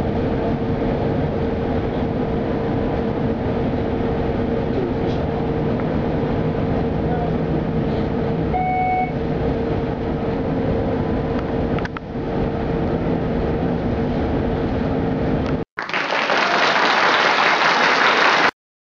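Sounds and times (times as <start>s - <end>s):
tram rumbling: 0.0s - 15.6s.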